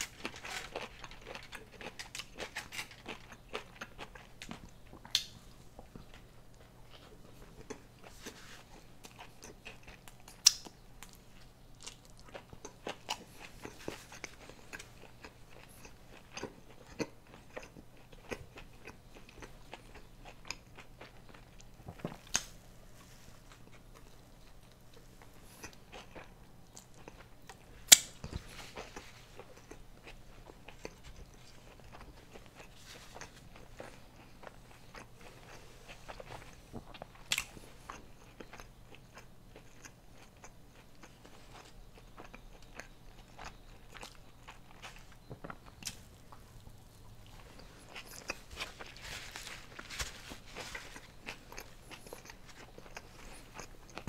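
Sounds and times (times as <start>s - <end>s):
biting and chewing food: 0.0s - 54.0s.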